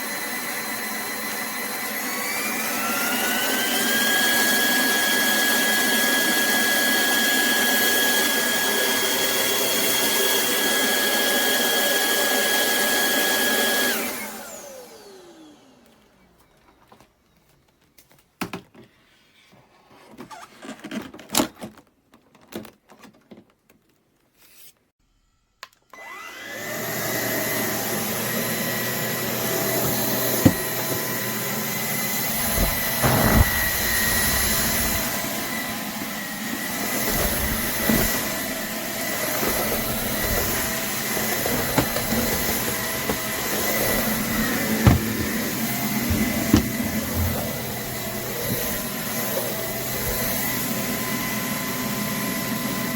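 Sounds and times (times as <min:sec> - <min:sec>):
vacuum motor whine: 0:00.0 - 0:16.2, 0:25.9 - 0:52.9.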